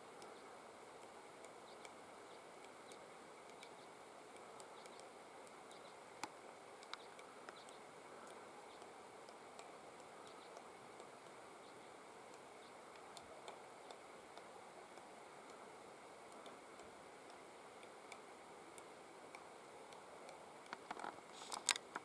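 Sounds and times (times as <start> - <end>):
woodpecker tapping bark: 0.2 - 20.9.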